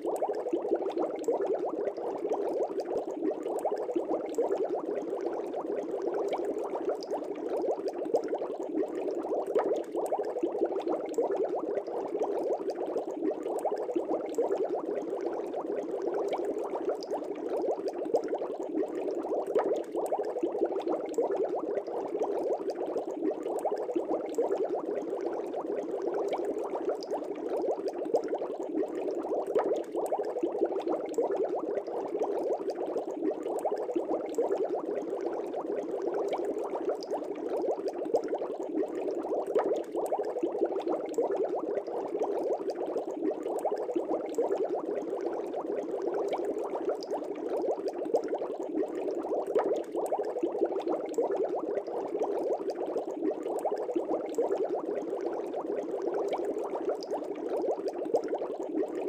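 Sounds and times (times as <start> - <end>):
aquarium air bubbling: 0.0 - 59.0.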